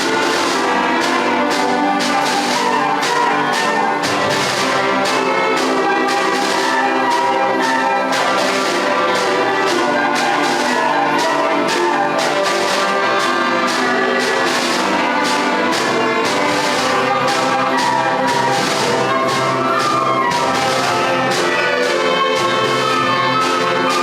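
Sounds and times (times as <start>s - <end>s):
brass and woodwind notes: 0.0s - 24.0s
percussion beat: 0.0s - 24.0s.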